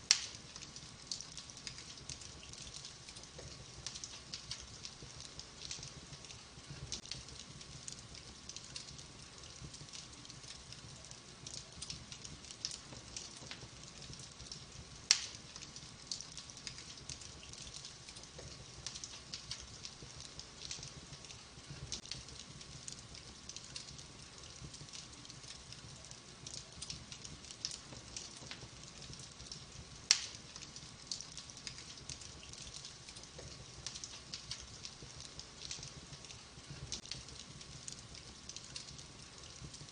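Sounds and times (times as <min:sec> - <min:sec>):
sharp snaps of burning logs: 0:00.0 - 0:39.9
wood fire crackling: 0:00.0 - 0:39.9.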